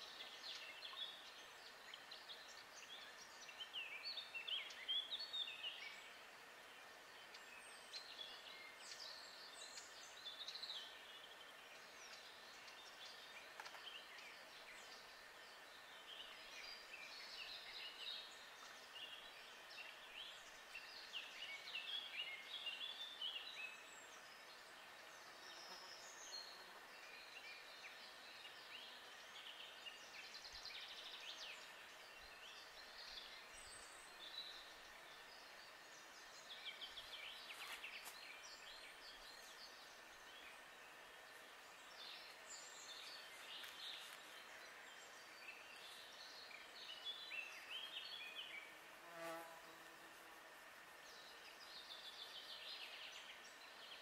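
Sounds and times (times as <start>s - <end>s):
small birds chirping and trilling: 0.0s - 49.4s, 50.4s - 54.0s
faint steady hiss: 0.0s - 54.0s.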